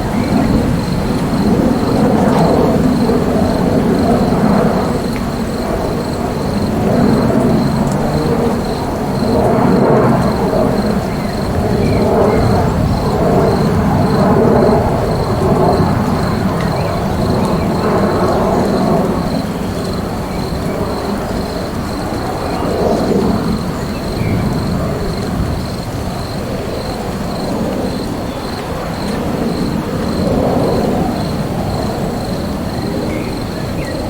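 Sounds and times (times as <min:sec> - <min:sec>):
heavy rain with low rumble: 0:00.0 - 0:34.0.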